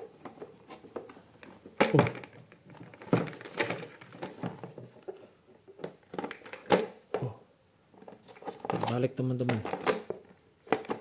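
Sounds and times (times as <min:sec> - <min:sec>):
plastic toy parts knocking and clicking: 0:00.1 - 0:07.4, 0:08.0 - 0:11.0.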